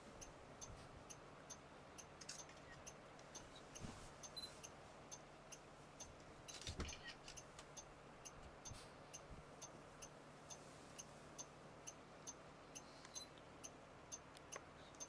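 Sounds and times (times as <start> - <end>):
faint regular ticking: 0.0 - 15.0.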